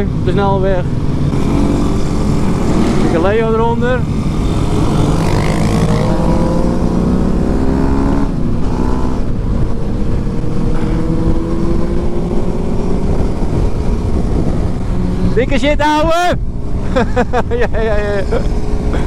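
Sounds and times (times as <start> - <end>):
motorcycle engine accelerating: 0.0 - 15.5, 16.4 - 19.0.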